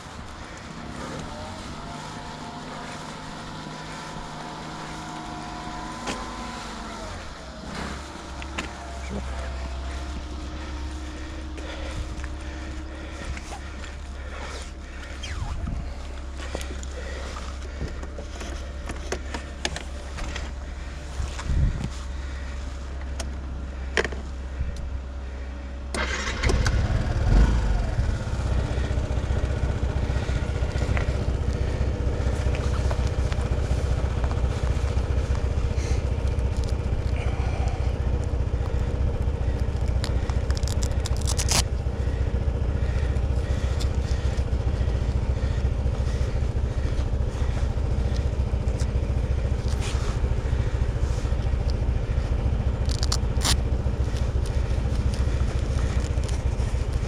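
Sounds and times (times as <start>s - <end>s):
vehicle engine starting and running: 0.0s - 57.0s.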